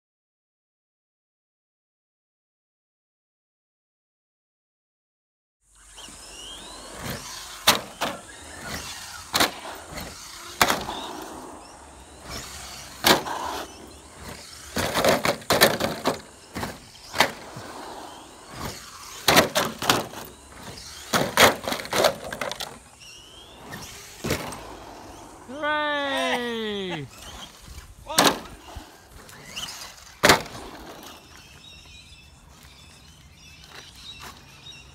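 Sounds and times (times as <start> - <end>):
electric motor whining: 5.7 - 34.9
rc truck landing and tumbling: 5.8 - 34.9
tyre noise: 5.8 - 34.9.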